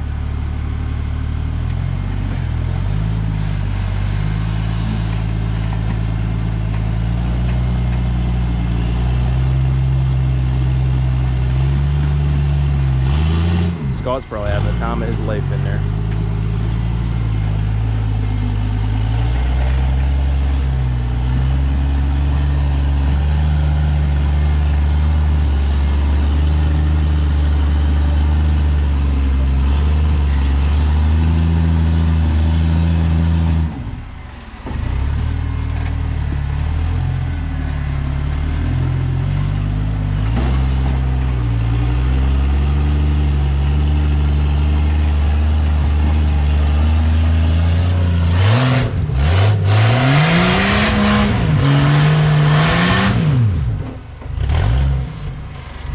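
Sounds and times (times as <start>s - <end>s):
buggy engine throttle blips: 0.0s - 55.9s.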